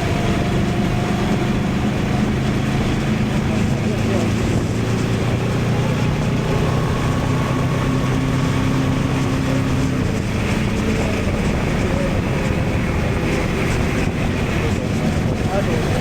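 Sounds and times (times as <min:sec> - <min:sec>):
motorcycle engine running: 0:00.0 - 0:16.0
wind rush over microphone: 0:00.0 - 0:16.0.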